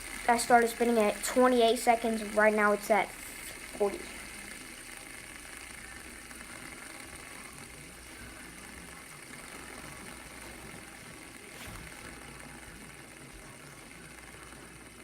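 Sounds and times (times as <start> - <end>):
fidget spinner whirring: 0.0 - 15.0.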